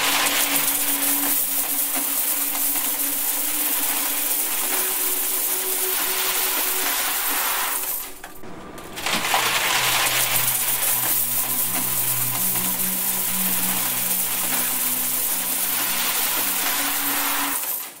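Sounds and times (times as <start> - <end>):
coins pouring onto coins: 0.0 - 8.3, 9.0 - 18.0
low steady hum: 0.0 - 17.5.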